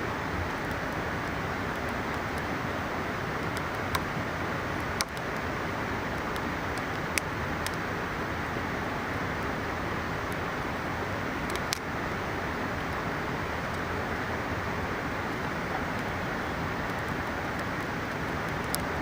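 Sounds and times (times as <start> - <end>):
campfire crackling: 0.0 - 19.0
river rushing: 0.0 - 19.0.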